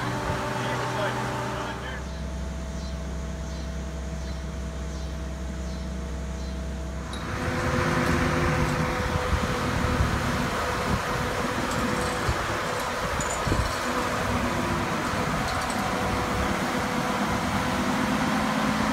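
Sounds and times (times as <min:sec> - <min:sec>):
engine humming: 0:00.0 - 0:18.9.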